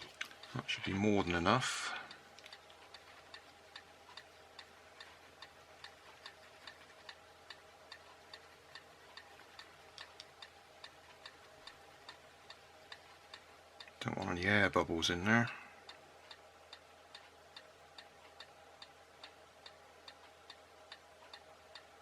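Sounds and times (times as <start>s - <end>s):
clock ticking: 0.0s - 14.4s, 15.1s - 22.0s
faint hum: 0.0s - 22.0s.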